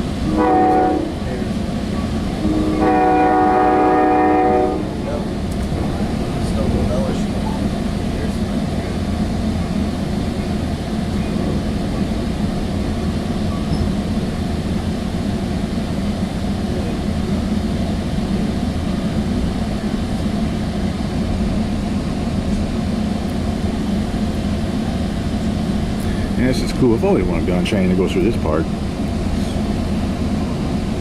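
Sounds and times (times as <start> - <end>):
train wheels rumbling on track: 0.0 - 31.0.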